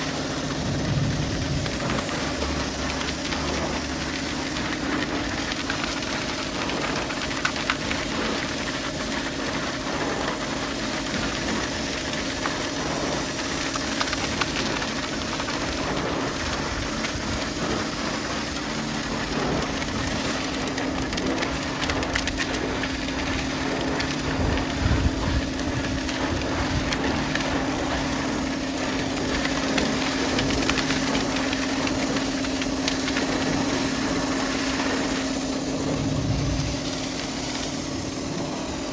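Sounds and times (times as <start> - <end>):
pressure washer water jet hiss: 0.0 - 5.3, 9.9 - 38.9
motor hum: 0.0 - 8.3, 12.3 - 38.9.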